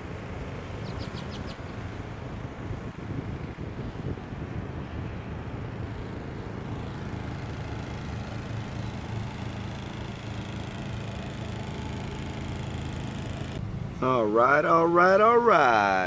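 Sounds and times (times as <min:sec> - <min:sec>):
portable generator engine hum: 0:00.0 - 0:16.0.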